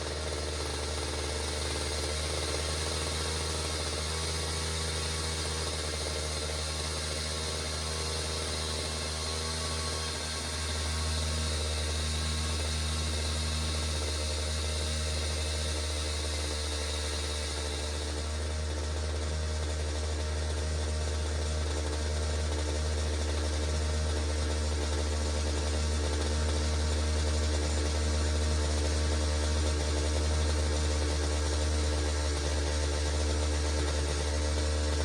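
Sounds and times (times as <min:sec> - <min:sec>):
chainsaw engine running: 0:00.0 - 0:35.0.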